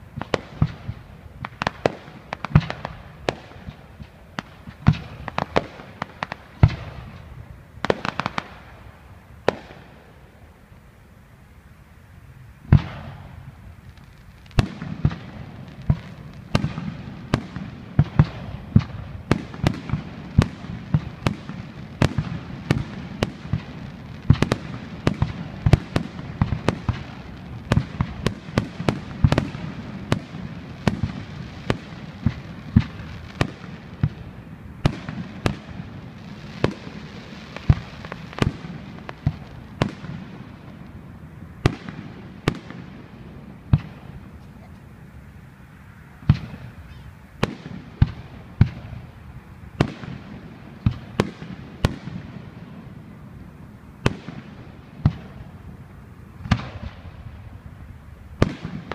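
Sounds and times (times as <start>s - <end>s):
firework crackling: 0.0s - 58.9s.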